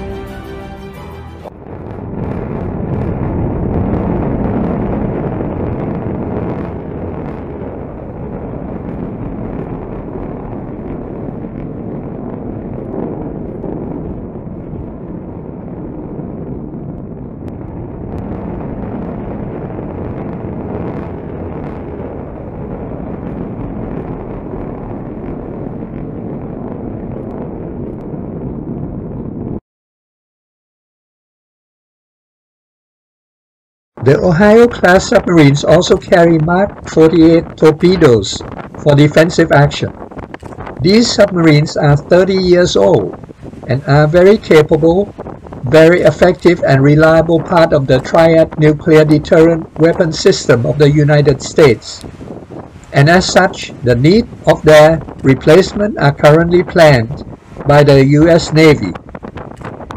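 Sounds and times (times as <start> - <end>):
rocket motor rumbling: 0.0 - 29.6, 34.0 - 59.9.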